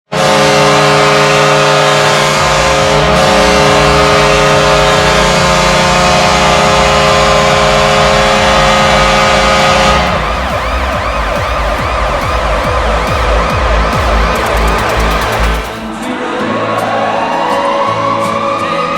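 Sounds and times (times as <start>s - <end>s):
arena goal horn blast: 0.1s - 16.3s
arena music: 0.2s - 18.9s.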